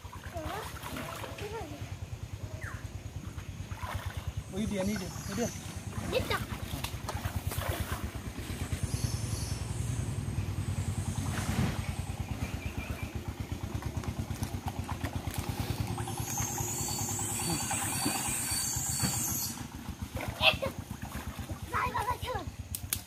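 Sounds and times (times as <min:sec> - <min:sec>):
small engine running steadily: 0:00.0 - 0:23.0.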